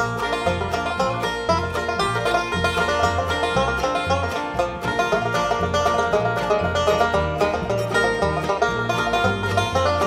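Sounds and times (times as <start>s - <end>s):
banjo picking rolls: 0.0s - 10.0s
fiddle: 0.0s - 10.0s
strummed acoustic guitar: 0.0s - 10.0s
walking bass line: 0.0s - 10.0s.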